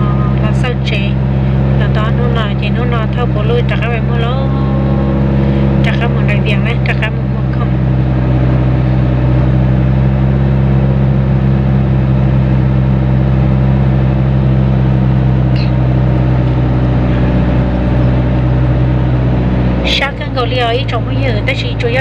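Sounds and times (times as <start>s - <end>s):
car engine hum: 0.0s - 22.0s
tyre road rumble: 0.0s - 22.0s.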